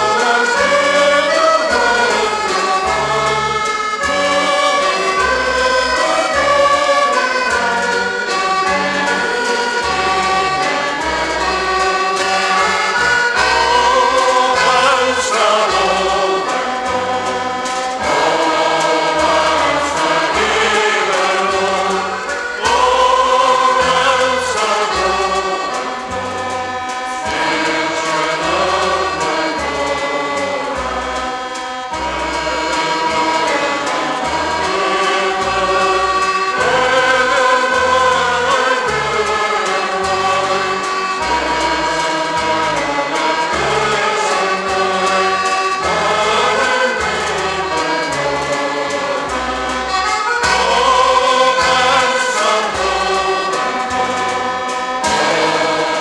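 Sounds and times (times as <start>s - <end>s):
bass notes: 0.0s - 56.0s
choir singing: 0.0s - 56.0s
showband music: 0.0s - 56.0s.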